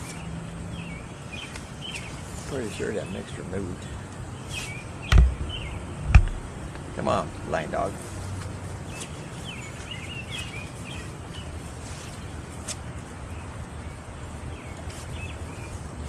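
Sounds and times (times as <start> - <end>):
background hiss: 0.0 - 16.0
birds chirping: 0.0 - 16.0.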